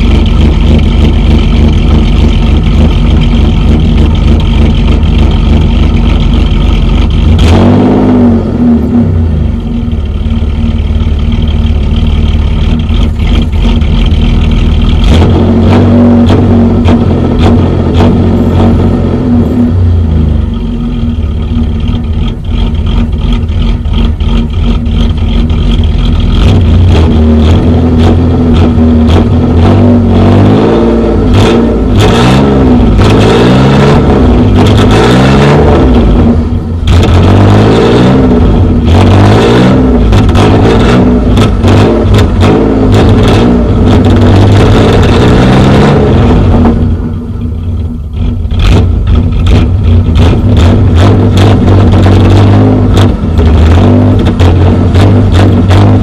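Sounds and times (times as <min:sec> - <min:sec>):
car engine revving through exhaust: 0:00.0 - 0:56.0.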